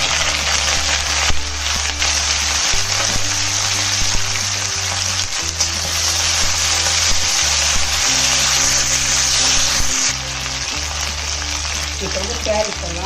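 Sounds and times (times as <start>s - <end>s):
cabbage sizzling in hot oil: 0.0s - 13.0s.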